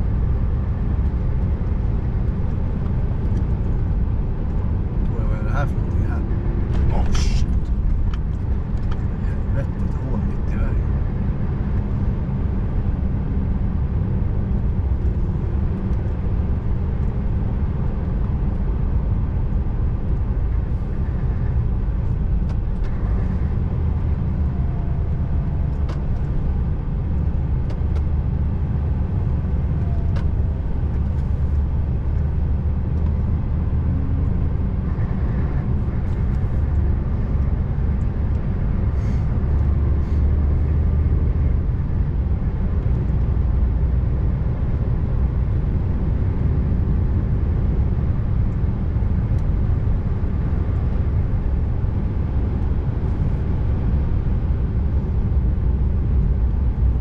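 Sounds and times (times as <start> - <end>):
truck engine hum: 0.0 - 57.0
tyre and road noise: 0.0 - 57.0.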